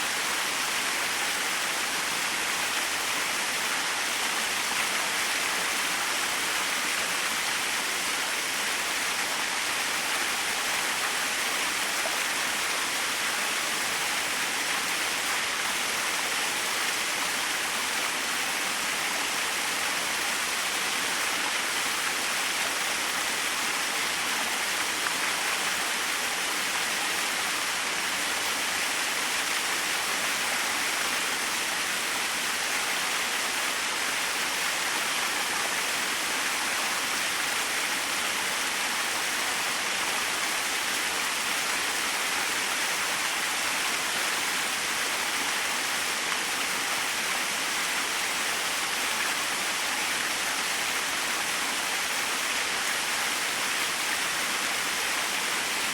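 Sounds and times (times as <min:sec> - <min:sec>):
small waterfall splashing: 0:00.0 - 0:55.9.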